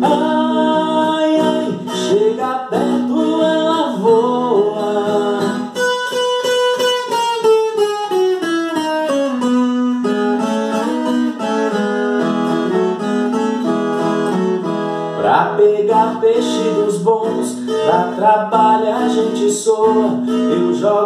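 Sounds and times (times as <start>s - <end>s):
folk guitar picked solo: 0.0s - 21.0s.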